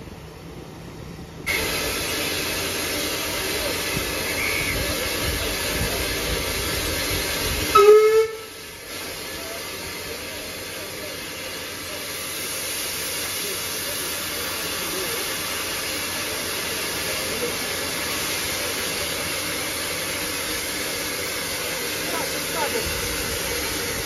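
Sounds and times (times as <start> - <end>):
steam hissing from locomotive: 1.4 - 24.0.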